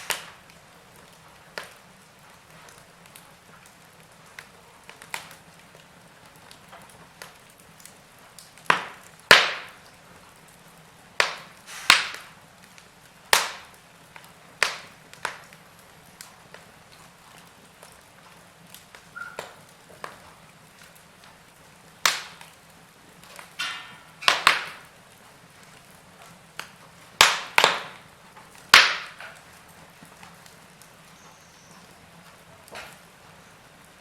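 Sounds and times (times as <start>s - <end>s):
faint steady hiss: 0.0s - 34.0s
logs crackling in fireplace: 0.0s - 34.0s.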